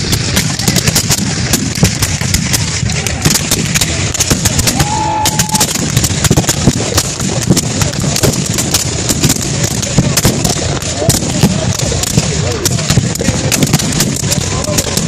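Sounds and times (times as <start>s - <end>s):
massed musket fire: 0.0s - 15.0s.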